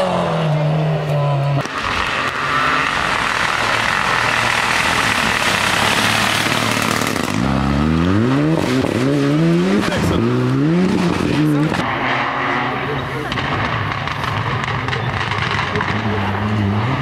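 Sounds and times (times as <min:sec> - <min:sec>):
rally car accelerating past: 0:00.0 - 0:17.0.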